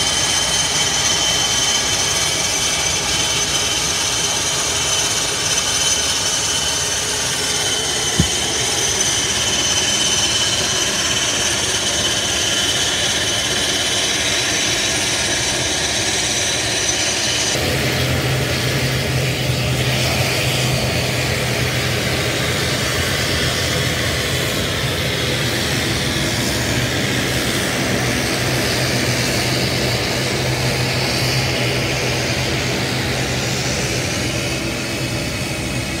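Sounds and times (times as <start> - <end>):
turboprop engines running: 0.0 - 36.0.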